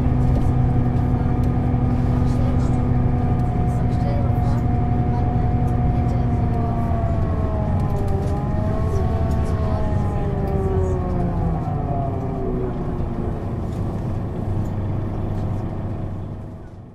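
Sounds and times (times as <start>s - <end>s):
bus diesel engine droning: 0.0s - 16.9s
bus whine: 0.0s - 16.9s.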